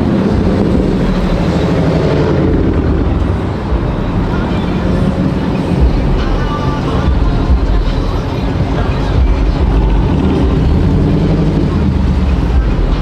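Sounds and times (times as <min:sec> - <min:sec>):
car engine running loud: 0:00.0 - 0:13.0.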